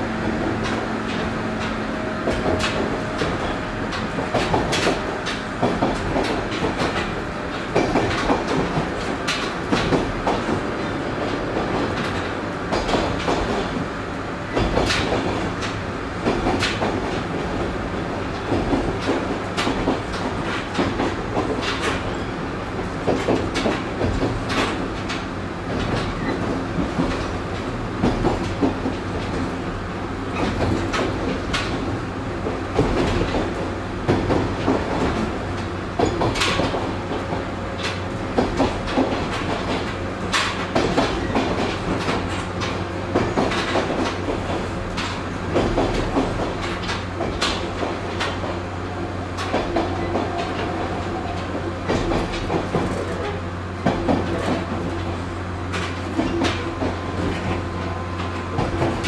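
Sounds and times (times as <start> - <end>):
train rumble and hum: 0.0 - 59.0
wheels clacking over rail joints: 0.0 - 59.0.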